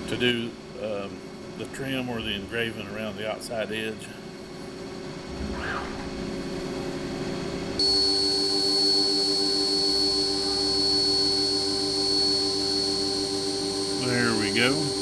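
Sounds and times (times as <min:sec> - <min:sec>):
high steady machine whine: 0:00.0 - 0:15.0
milling machine humming: 0:00.0 - 0:15.0.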